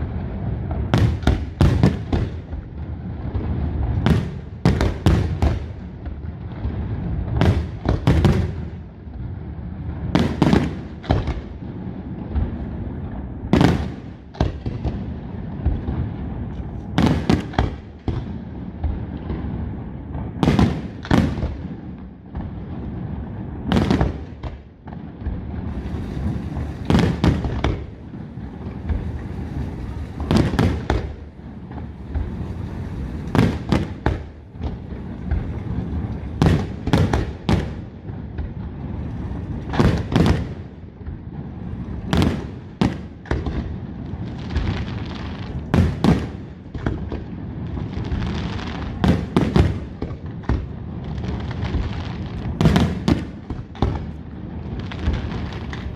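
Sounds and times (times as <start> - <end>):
continuous low rumble: 0.0 - 55.9.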